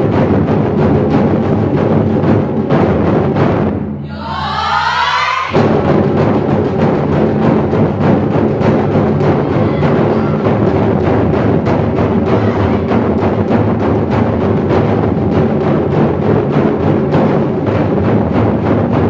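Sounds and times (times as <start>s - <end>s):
drum ensemble drumming: 0.0s - 19.0s.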